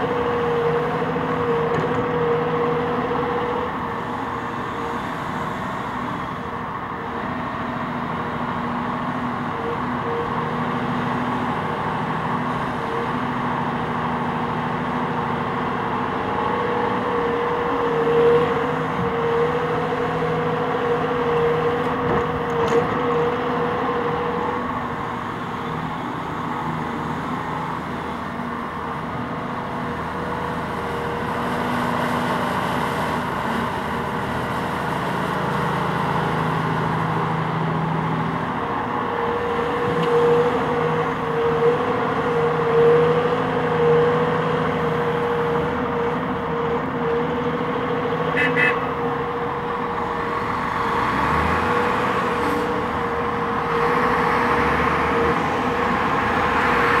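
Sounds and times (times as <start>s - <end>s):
constant hydraulic whine: 0.0s - 57.0s
excavator engine and hydraulics: 0.0s - 57.0s.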